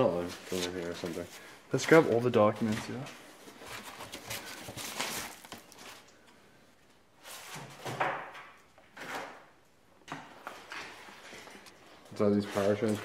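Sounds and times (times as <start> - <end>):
papers rustling: 0.0 - 6.4, 8.8 - 13.0.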